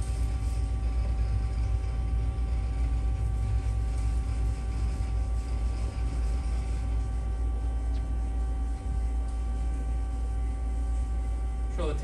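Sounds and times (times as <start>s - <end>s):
lathe humming: 0.0s - 11.9s
steady whining tones: 0.0s - 12.0s.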